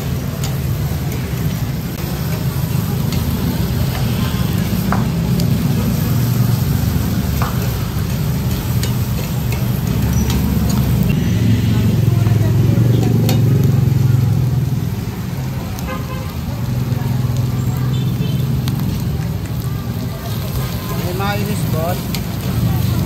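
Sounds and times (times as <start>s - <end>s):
meat sizzling on hot plate: 0.0s - 23.0s.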